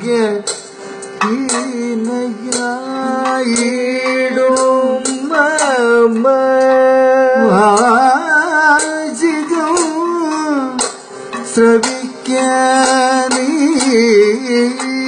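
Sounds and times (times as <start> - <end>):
small hand cymbals striking: 0.4 - 15.0.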